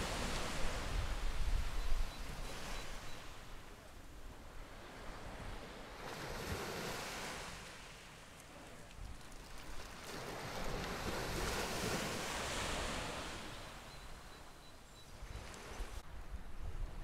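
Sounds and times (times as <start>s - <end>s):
sea waves washing on shore: 0.0s - 14.3s.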